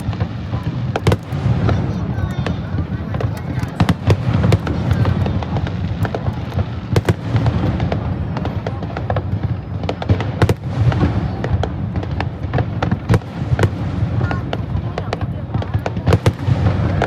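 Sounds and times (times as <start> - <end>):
fireworks bangs and cracks: 0.0 - 17.0.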